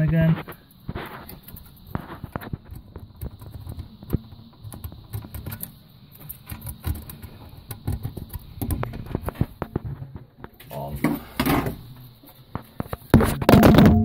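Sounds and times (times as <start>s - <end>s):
circuit boards clicking and knocking: 0.0s - 11.9s, 12.5s - 14.0s.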